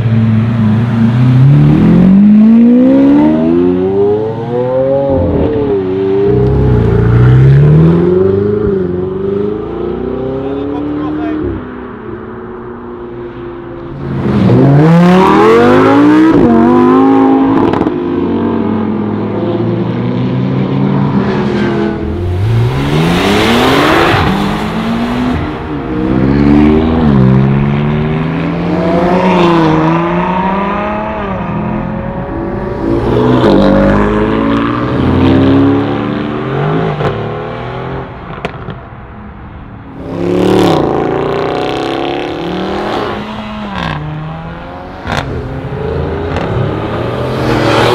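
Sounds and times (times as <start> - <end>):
sports car engines accelerating hard: 0.0 - 38.8, 39.9 - 47.9.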